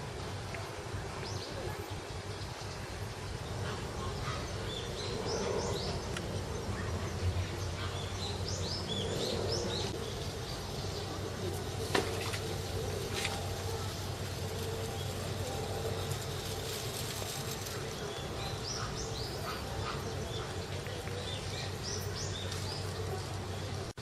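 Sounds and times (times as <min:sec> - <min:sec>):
small birds chirping: 0:00.5 - 0:24.0.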